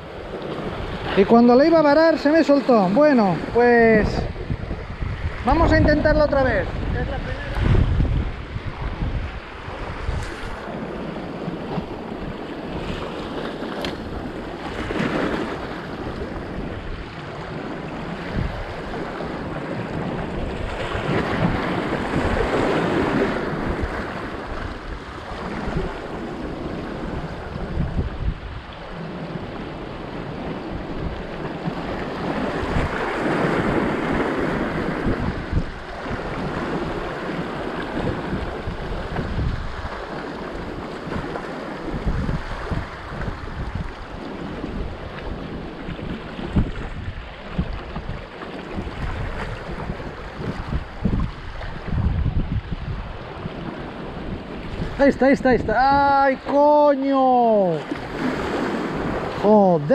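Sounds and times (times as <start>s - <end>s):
sea waves on rocky shore: 0.0s - 59.9s
wind on microphone: 0.0s - 59.9s.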